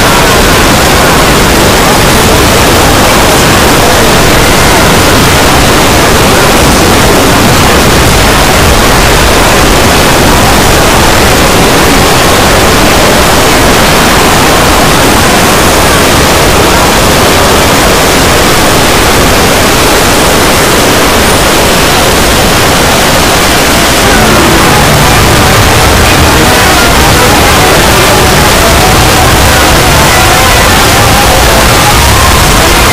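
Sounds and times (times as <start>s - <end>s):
loud distorted static-like noise: 0.0s - 32.9s.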